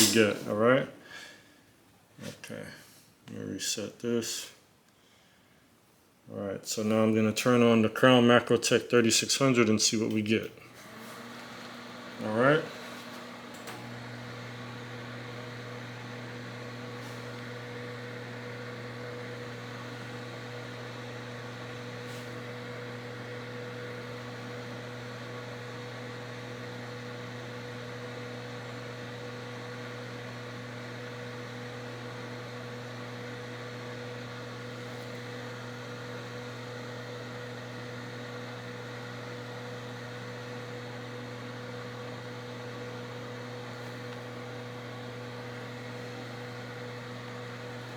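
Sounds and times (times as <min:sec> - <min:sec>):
cooling fan whir: 0:00.0 - 0:00.8, 0:09.4 - 0:47.9.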